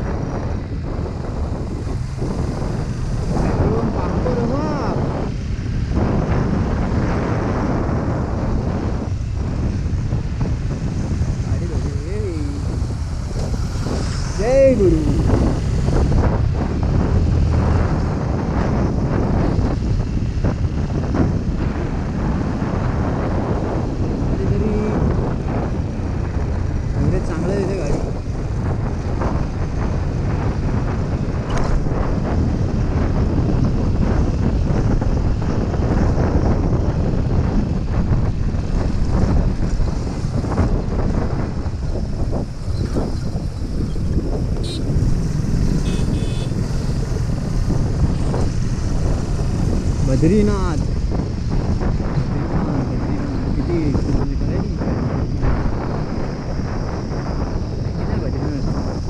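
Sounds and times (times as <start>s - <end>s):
motorcycle engine running: 0.0s - 54.4s
wind buffeting microphone: 0.0s - 59.0s.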